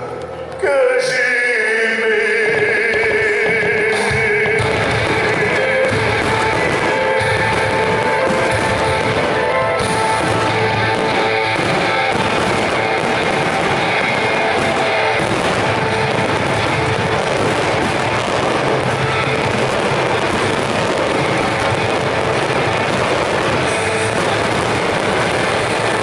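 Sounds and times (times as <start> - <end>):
fireworks banging and crackling: 0.0 - 26.0
music: 0.0 - 26.0.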